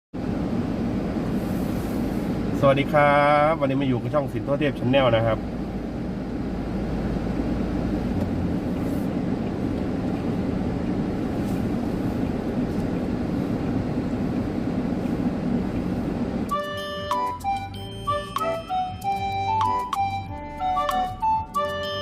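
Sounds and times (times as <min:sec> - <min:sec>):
vehicle rumbling along road: 0:00.2 - 0:22.0.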